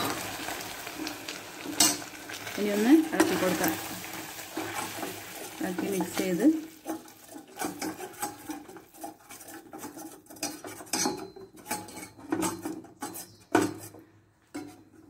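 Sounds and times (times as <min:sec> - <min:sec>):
spoon scraping saucepan: 0:01.6 - 0:15.0.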